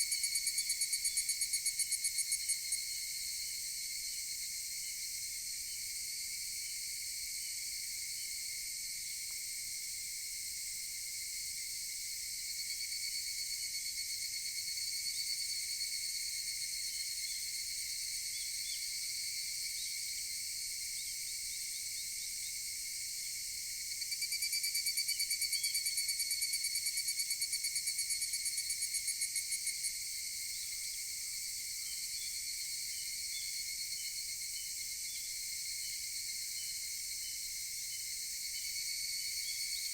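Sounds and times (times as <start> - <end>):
cicada pulsed call: 0.0 - 8.4, 12.6 - 39.9
cicadas droning: 0.0 - 39.9.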